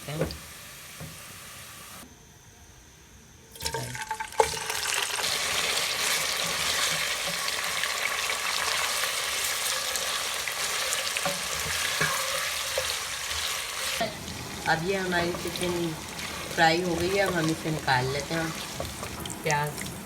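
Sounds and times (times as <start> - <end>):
chicken sizzling in hot oil: 3.6 - 20.0.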